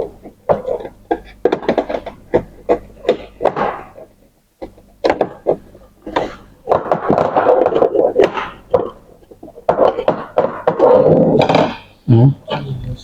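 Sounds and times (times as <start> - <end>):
plastic parts knocking and clicking: 0.0 - 11.9
plastic scraping rub: 0.0 - 11.9.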